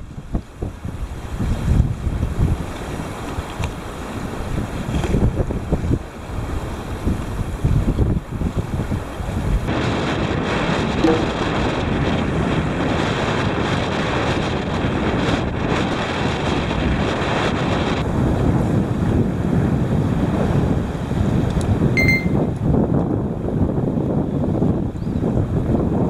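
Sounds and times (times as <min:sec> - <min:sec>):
wind buffeting the microphone: 0:00.0 - 0:26.0.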